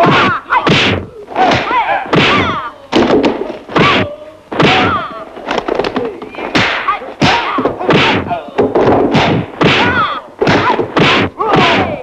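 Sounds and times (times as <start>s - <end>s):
fighters shouting and grunting: 0.0s - 2.9s, 3.8s - 5.2s, 6.3s - 12.0s
punch and kick impacts: 0.0s - 5.1s, 6.5s - 12.0s.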